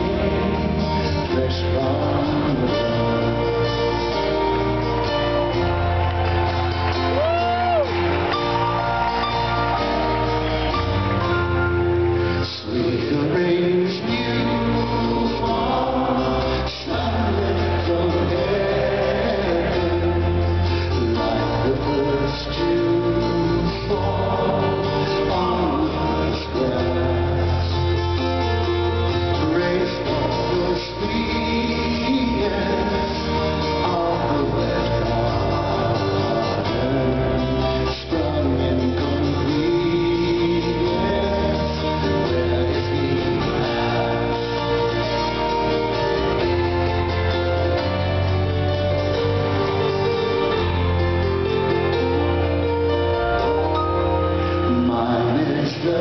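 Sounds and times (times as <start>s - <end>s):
man singing: 0.0s - 6.0s, 6.9s - 56.0s
acoustic guitars strumming: 0.0s - 56.0s
keyboard: 0.0s - 56.0s
low bass notes: 0.0s - 56.0s.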